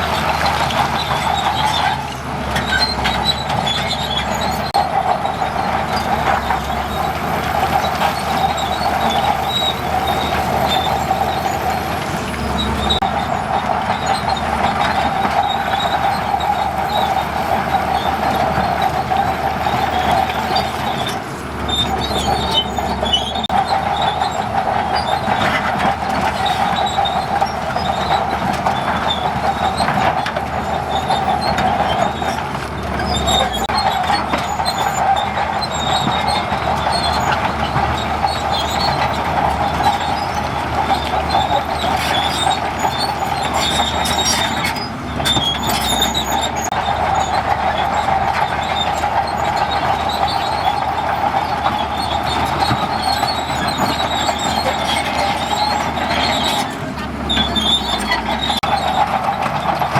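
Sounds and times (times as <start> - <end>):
bulldozer engine running: 0.0 - 59.9
steel tracks clanking and squealing: 0.0 - 59.9.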